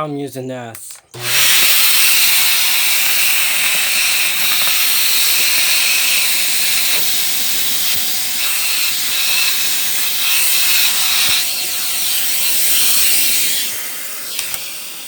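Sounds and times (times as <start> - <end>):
vacuum cleaner suction hiss: 1.2 - 15.0
vacuum motor whine winding down: 1.2 - 15.0
small clicks: 2.0 - 13.6, 14.3 - 14.8.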